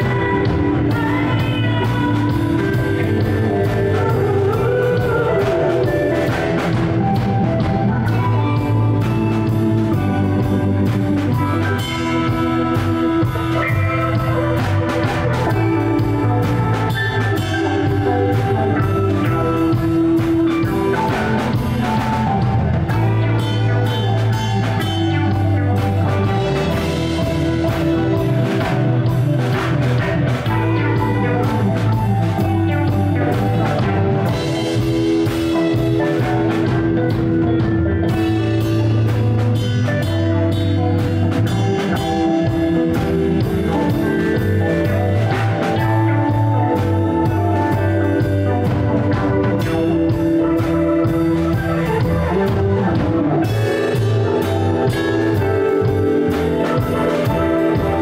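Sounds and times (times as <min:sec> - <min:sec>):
drum kit: 0:00.0 - 0:58.0
electric bass: 0:00.0 - 0:58.0
electric guitar: 0:00.0 - 0:58.0
electric piano: 0:00.0 - 0:58.0.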